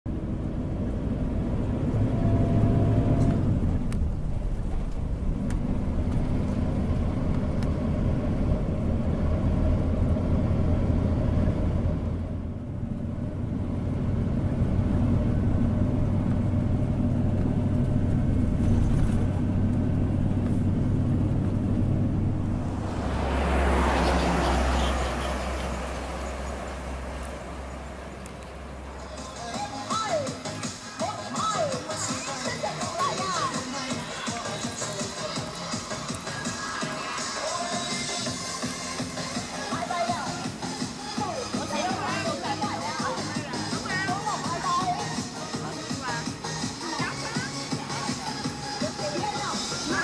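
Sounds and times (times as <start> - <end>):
vehicle engine and road rumble: 0.0 - 50.0.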